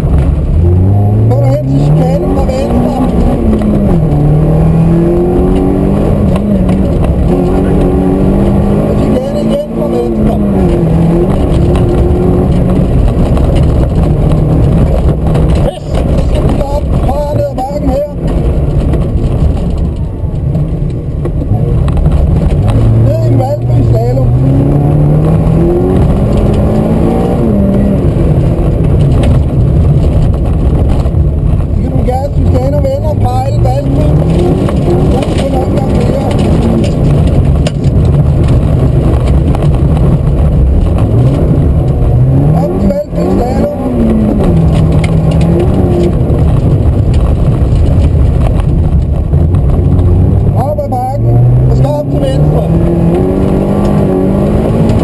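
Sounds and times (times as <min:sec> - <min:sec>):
rally car engine running hard: 0:00.0 - 0:55.0
tyres rumbling on gravel: 0:00.0 - 0:55.0.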